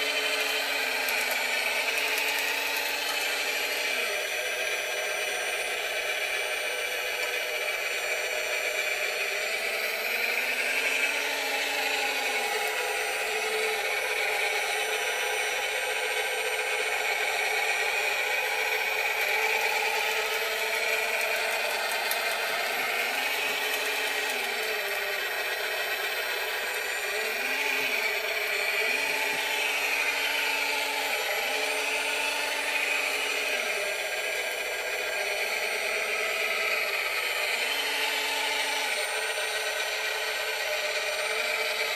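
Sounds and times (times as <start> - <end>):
electric motors whirring: 0.0 - 41.9.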